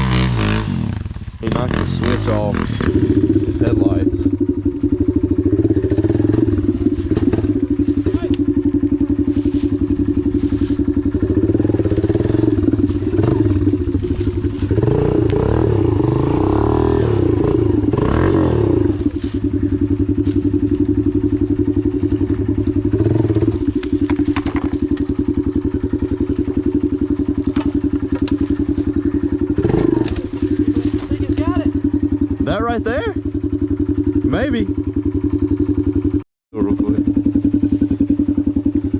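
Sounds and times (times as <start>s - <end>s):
dirt bike engine idling: 0.0s - 38.9s.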